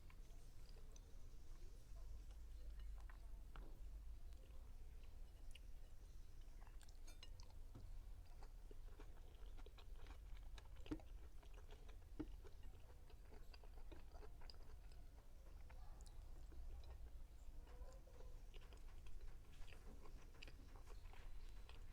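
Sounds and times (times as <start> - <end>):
chewing and mouth sounds: 0.0 - 21.9
low background hum: 0.0 - 21.9.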